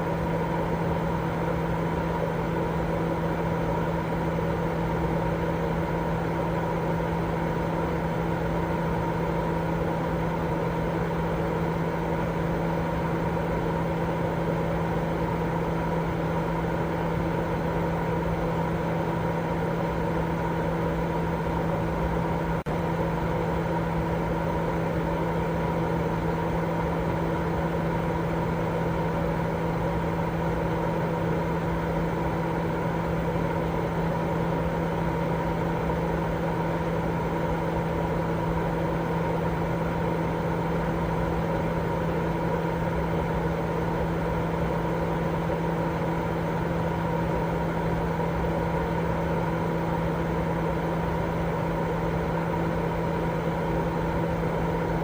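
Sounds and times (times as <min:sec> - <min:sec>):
steady white noise: 0:00.0 - 0:55.0.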